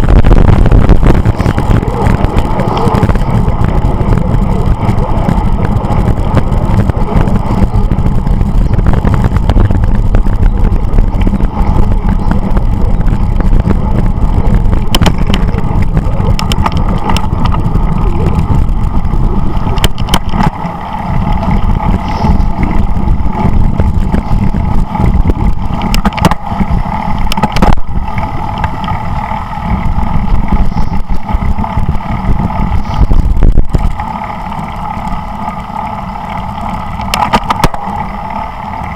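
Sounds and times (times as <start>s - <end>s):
tyre and road noise: 0.0s - 38.9s
wind buffeting microphone: 0.0s - 38.9s.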